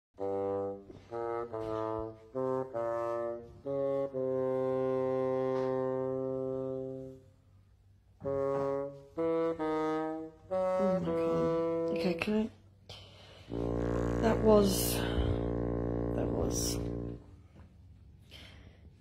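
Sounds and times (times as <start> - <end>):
brass-like wind instrument melody: 0.2 - 7.6, 8.2 - 12.3, 13.4 - 17.4.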